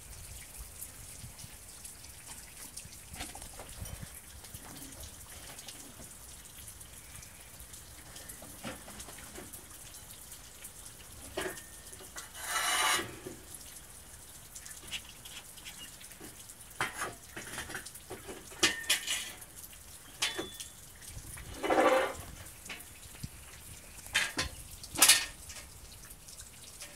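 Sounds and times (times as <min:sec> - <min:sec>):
rain hissing: 0:00.0 - 0:26.9
drips tapping: 0:00.2 - 0:26.9.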